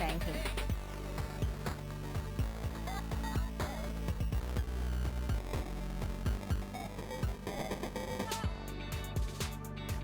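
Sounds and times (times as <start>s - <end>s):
distorted electronic pop loop: 0.0s - 10.0s.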